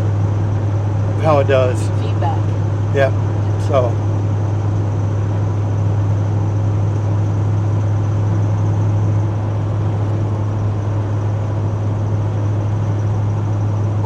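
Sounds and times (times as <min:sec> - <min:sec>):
engine and exhaust drone: 0:00.0 - 0:14.0
road noise: 0:00.0 - 0:14.0.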